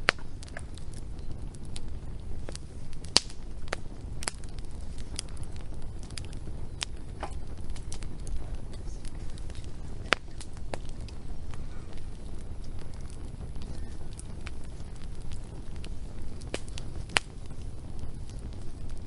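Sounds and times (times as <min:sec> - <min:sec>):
low steady rumble: 0:00.0 - 0:19.0
wood fire pops and snaps: 0:00.0 - 0:19.0.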